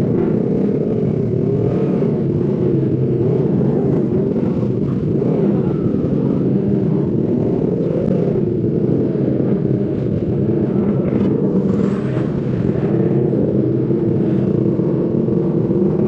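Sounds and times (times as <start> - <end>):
motorcycle engine droning: 0.0 - 16.0
other motorcycles running alongside: 0.0 - 16.0.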